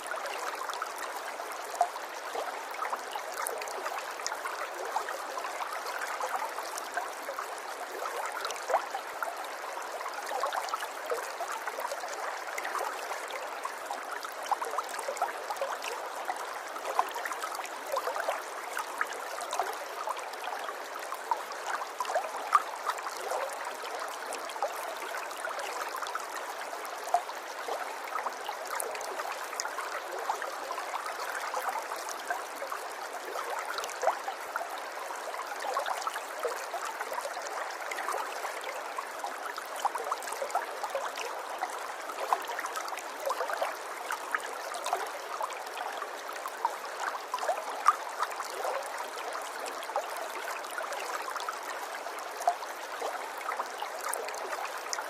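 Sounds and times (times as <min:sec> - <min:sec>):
river water babbling over stones: 0:00.0 - 0:55.0.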